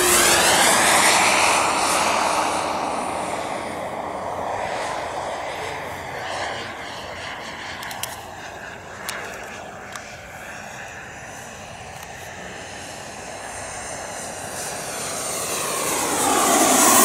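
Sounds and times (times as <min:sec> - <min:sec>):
model airplane engine flying past: 0:00.0 - 0:17.0.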